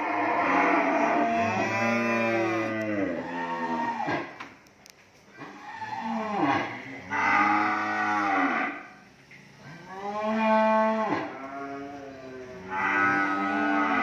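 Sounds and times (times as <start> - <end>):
cattle mooing: 0.0 - 4.3, 5.8 - 8.9, 9.8 - 14.0.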